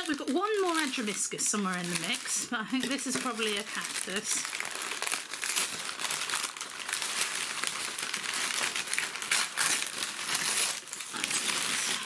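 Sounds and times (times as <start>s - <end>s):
paper crumpling and crackling: 0.0s - 12.0s.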